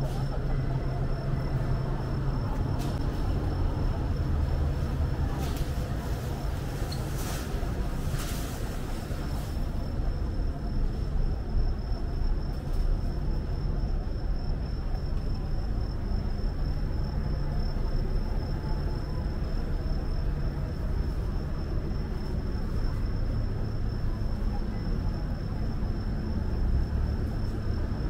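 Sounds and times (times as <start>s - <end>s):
low rumble of traffic: 0.0s - 28.0s.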